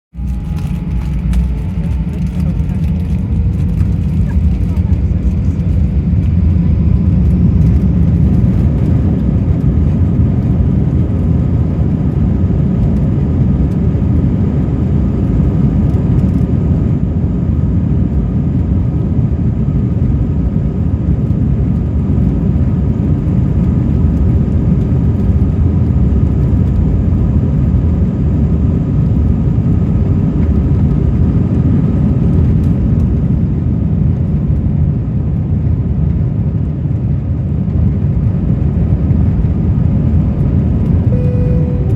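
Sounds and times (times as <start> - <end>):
faint engine whine: 0.1 - 41.9
jet engine rumble in cabin: 0.2 - 41.9.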